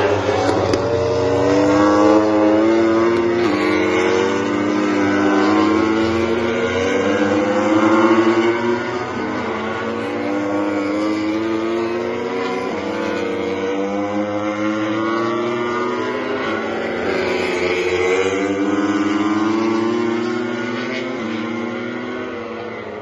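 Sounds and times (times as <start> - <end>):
racing motorcycle engine accelerating: 0.0 - 23.0.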